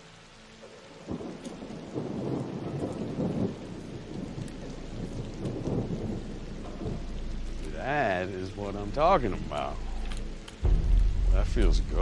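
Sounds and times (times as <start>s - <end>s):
rain falling: 0.0s - 12.0s
thunder rumbling: 0.9s - 12.0s.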